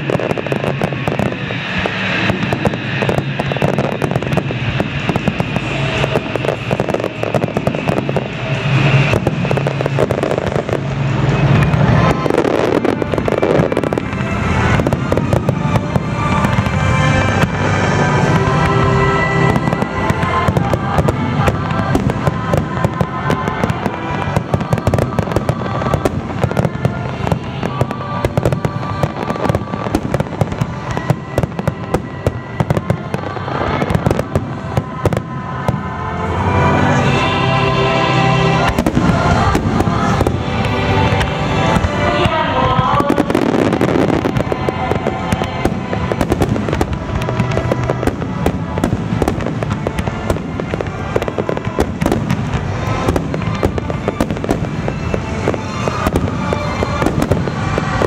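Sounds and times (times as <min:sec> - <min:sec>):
fireworks bursting and crackling: 0:00.0 - 0:58.0
music playing: 0:00.0 - 0:58.0.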